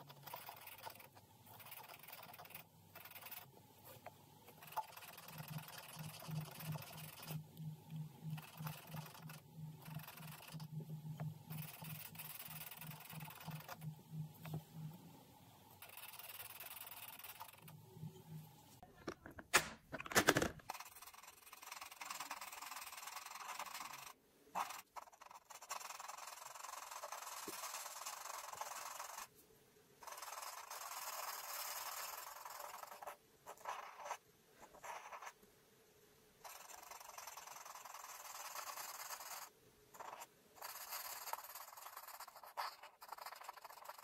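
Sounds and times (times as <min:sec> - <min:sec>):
marker tip rubbing on paper: 0:00.0 - 0:07.5, 0:08.3 - 0:14.8, 0:15.8 - 0:17.8, 0:20.7 - 0:29.3, 0:30.0 - 0:35.4, 0:36.4 - 0:44.0.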